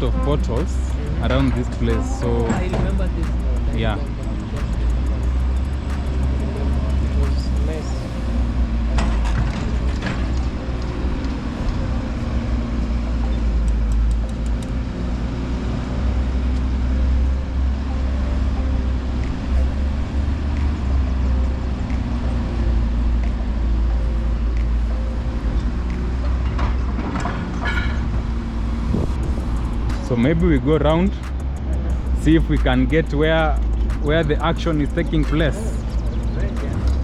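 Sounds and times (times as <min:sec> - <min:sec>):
highway traffic rumble: 0:00.0 - 0:37.0.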